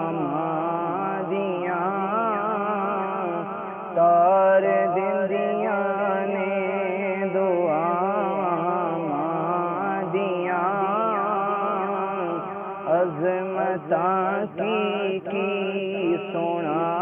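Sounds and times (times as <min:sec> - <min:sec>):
man singing: 0:00.0 - 0:17.0.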